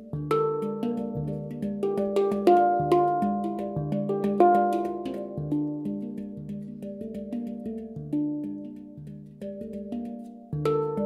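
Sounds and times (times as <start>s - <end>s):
handpan notes ringing: 0.0s - 11.0s.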